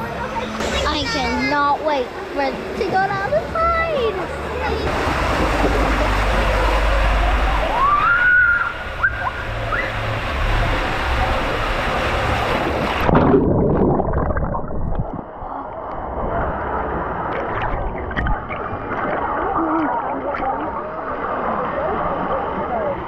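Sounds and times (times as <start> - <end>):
water rushing and splashing: 0.0 - 23.0.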